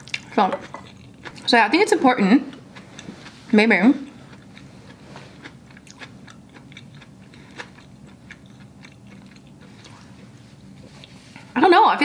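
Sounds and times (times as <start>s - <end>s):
person chewing spaghetti: 0.0s - 1.5s, 2.1s - 11.3s.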